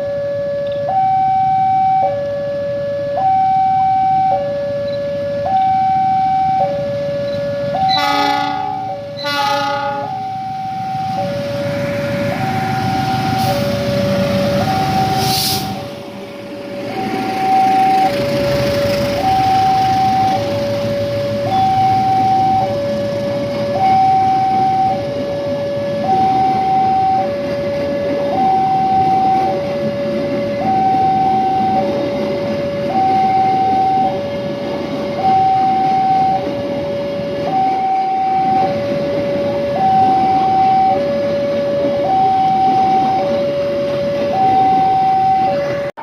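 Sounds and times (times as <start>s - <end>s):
level crossing two-tone alarm: 0.0s - 11.5s, 12.2s - 15.9s, 16.9s - 18.3s, 19.1s - 22.9s, 23.6s - 32.0s, 32.7s - 34.3s, 35.2s - 36.6s, 37.3s - 45.7s.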